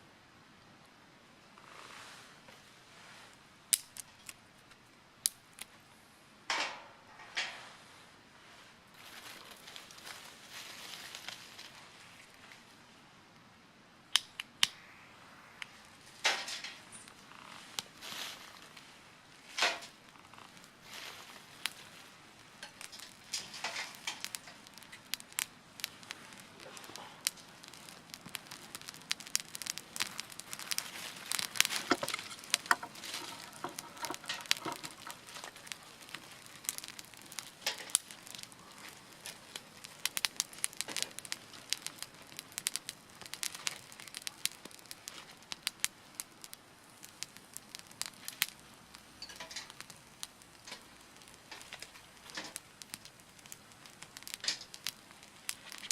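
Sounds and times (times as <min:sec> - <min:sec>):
wood crackling and snapping: 0:03.7 - 0:05.7, 0:09.0 - 0:12.6, 0:14.1 - 0:14.8, 0:15.6 - 0:55.9.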